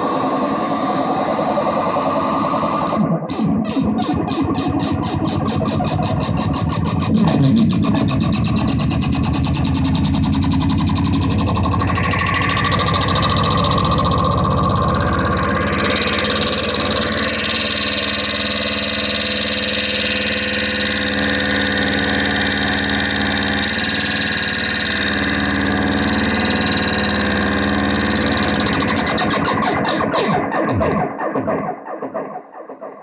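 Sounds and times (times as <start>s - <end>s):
electronic noise drone: 0.0s - 32.5s.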